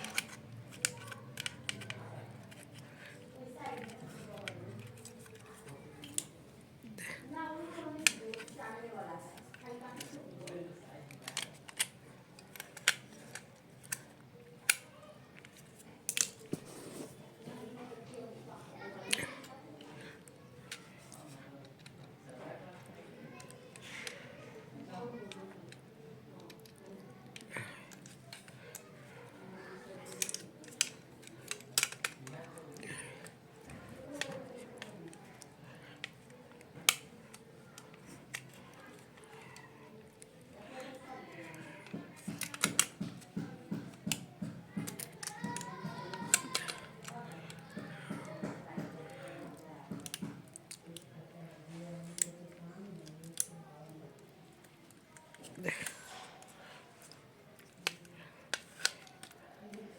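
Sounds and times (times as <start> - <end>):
hand tools clicking on plastic: 0.0 - 6.4, 7.8 - 8.6, 9.4 - 14.8, 15.4 - 17.1, 26.4 - 59.9.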